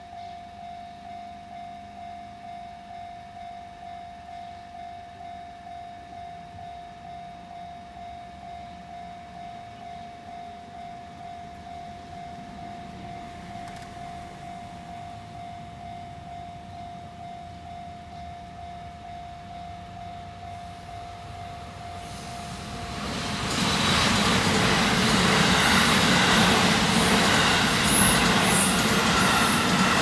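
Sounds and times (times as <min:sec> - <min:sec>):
railroad crossing warning bell: 0:00.0 - 0:30.0
train noise: 0:00.0 - 0:30.0.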